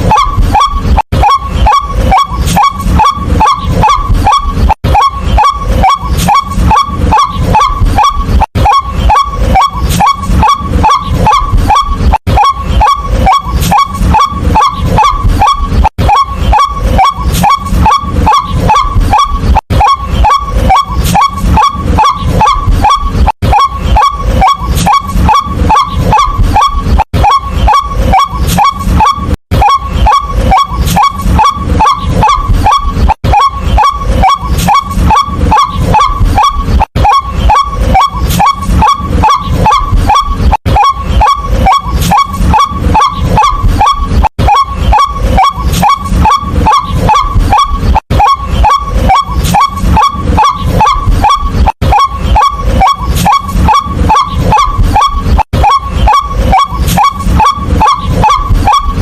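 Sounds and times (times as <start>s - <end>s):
bird honking calls: 0.0s - 59.0s.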